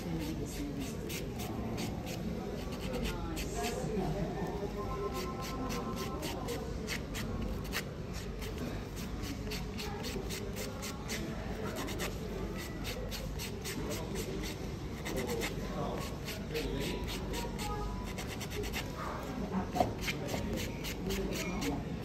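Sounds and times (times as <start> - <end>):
nail file scraping nails: 0.0 - 3.8, 5.1 - 18.9, 19.8 - 21.8.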